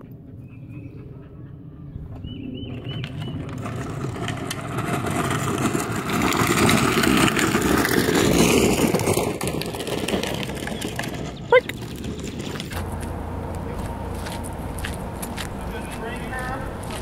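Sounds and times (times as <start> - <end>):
plastic wheels rumbling over asphalt: 2.2 - 17.0.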